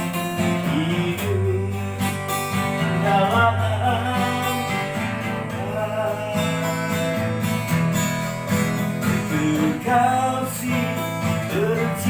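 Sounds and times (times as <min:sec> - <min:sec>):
person singing: 0:00.0 - 0:07.6, 0:09.0 - 0:12.0
acoustic guitar strumming chords: 0:00.0 - 0:12.0.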